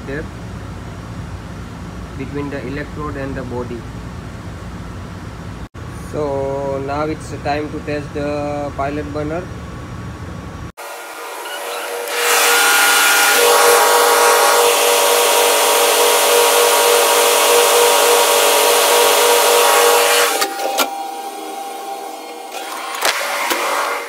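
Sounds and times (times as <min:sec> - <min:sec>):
lift mechanical drone: 0:00.0 - 0:24.0.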